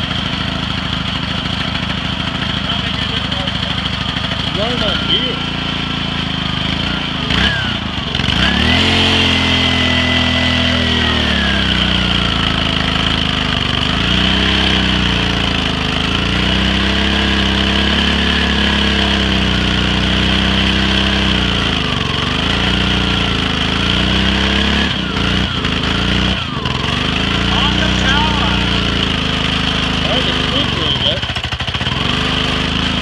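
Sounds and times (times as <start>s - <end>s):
engine running hard: 0.0s - 33.0s.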